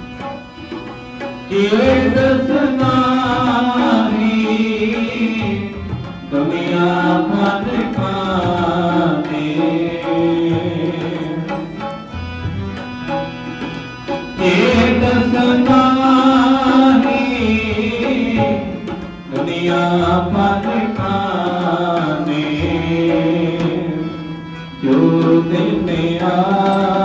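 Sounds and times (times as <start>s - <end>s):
man singing devotional melody: 0.0s - 27.0s
steady held drone: 0.0s - 27.0s
tabla: 0.0s - 27.0s.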